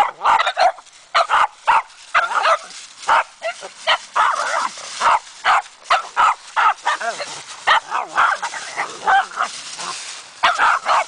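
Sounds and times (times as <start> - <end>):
dog barking: 0.0 - 9.5, 10.4 - 11.0.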